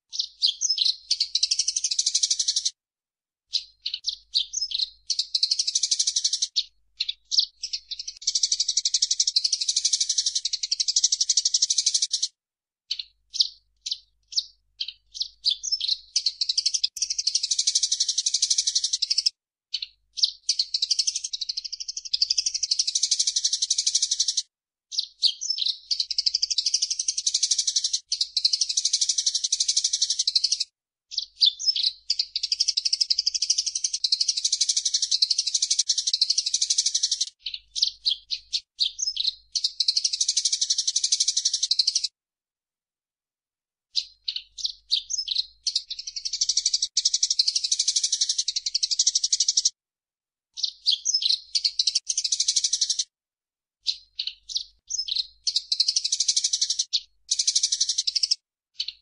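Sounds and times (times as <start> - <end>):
sparrow chirping: 0.1 - 2.8, 3.5 - 12.3, 12.9 - 42.1, 43.9 - 49.8, 50.6 - 53.1, 53.8 - 59.0.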